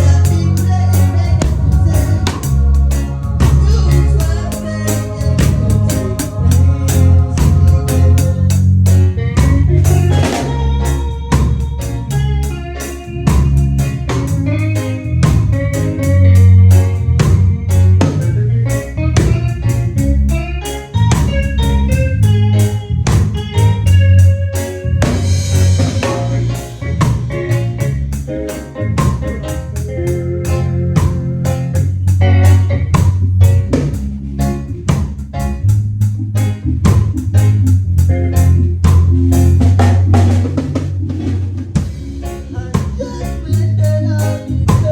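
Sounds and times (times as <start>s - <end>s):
drum kit beat: 0.0s - 44.9s
guitar: 0.0s - 44.9s
heavy bass line: 0.0s - 44.9s
keyboard: 0.0s - 44.9s.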